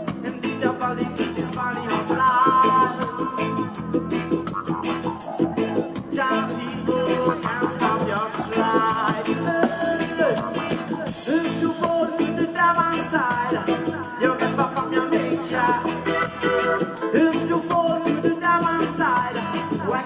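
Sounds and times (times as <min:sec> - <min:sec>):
live reggae band playing: 0:00.0 - 0:20.0.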